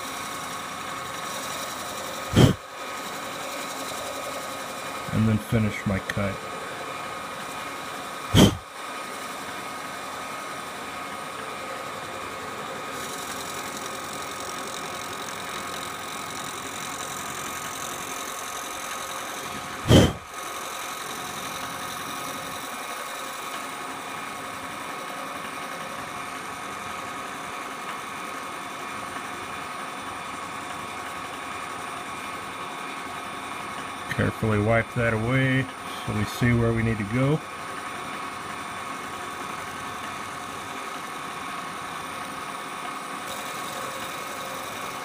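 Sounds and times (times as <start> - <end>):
milling machine hum and whine: 0.0 - 45.0.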